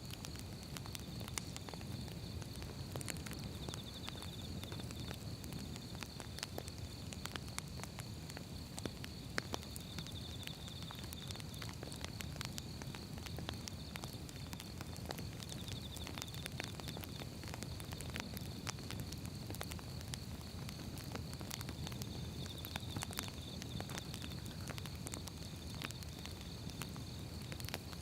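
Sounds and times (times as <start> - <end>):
firewood crackling and snapping: 0.0 - 28.0
low rumble of flames: 0.0 - 28.0.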